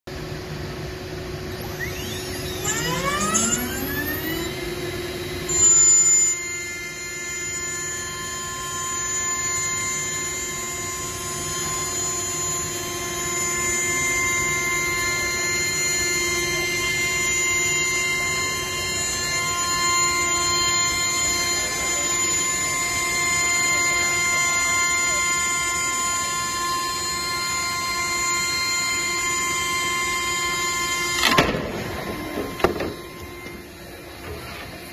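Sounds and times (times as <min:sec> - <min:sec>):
router spindle whine: 0:00.1 - 0:34.9
wood cutting rush: 0:01.5 - 0:34.9.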